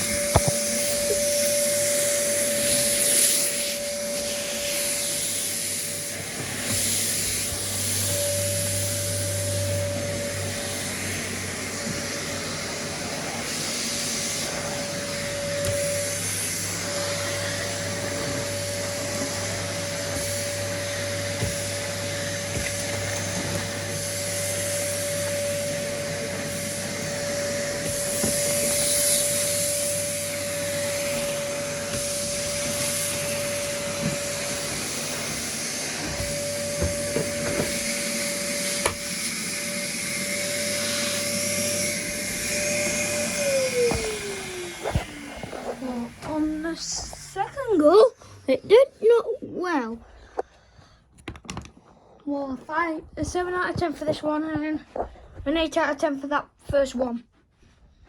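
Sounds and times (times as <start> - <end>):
vacuum cleaner running: 0.0 - 50.3.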